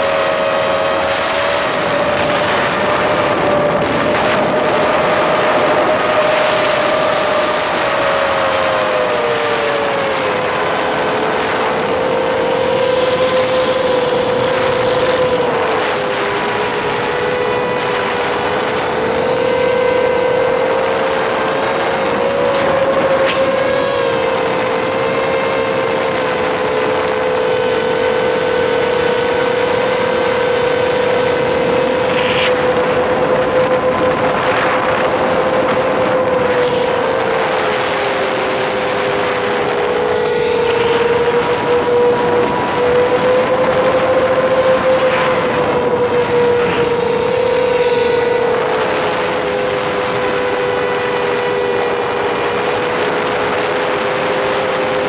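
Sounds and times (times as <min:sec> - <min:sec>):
drone motors and propellers whining: 0:00.0 - 0:55.0.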